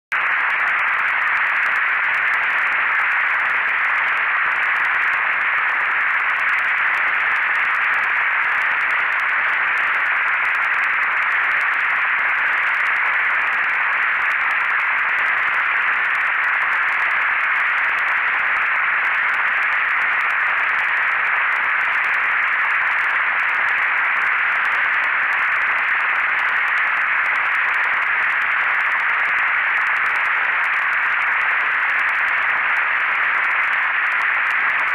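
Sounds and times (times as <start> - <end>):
static-like hiss: 0.1 - 34.9.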